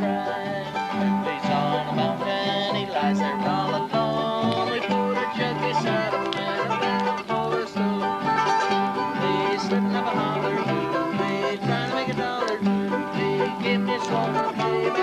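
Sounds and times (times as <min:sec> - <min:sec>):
bluegrass string music: 0:00.0 - 0:15.0.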